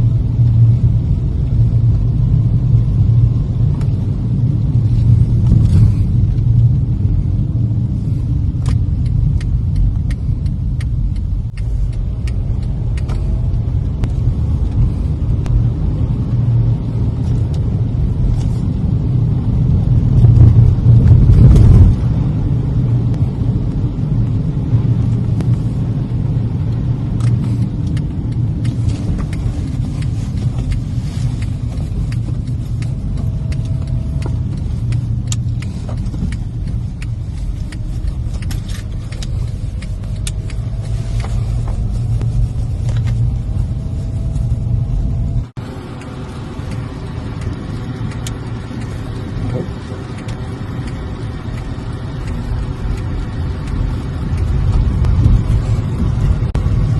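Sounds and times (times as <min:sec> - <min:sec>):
tyres and engine rumble inside car: 0:00.0 - 0:56.9.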